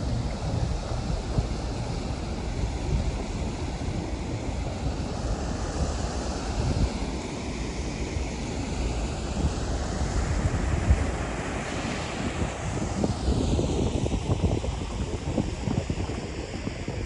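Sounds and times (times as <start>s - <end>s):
wind buffeting microphone: 0.0s - 7.4s, 8.1s - 17.0s.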